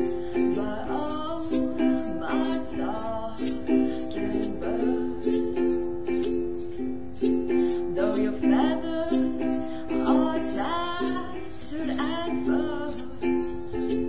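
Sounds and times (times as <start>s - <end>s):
person singing: 0.0s - 6.3s, 7.1s - 14.0s
egg shaker ticking: 0.0s - 14.0s
ukuleles strumming chords: 0.0s - 14.0s.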